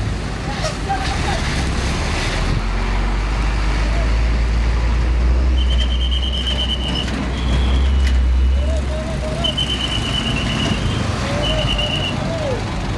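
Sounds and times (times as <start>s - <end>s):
heavy traffic passing: 0.0s - 12.9s.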